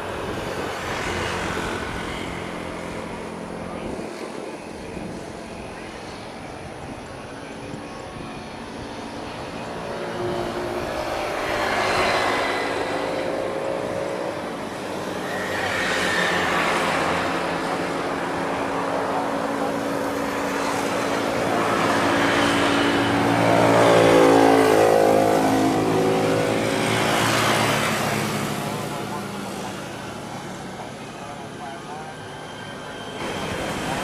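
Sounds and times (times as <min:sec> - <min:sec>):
jet engine whine: 0:00.0 - 0:34.0
road vehicles passing: 0:00.0 - 0:34.0.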